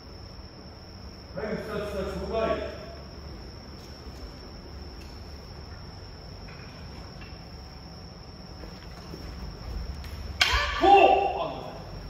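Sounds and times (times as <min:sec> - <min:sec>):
crickets trilling: 0:00.0 - 0:12.0
low room rumble: 0:00.0 - 0:12.0.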